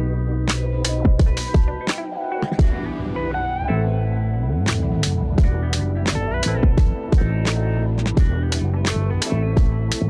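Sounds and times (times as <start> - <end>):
chill hop music: 0.0 - 10.0.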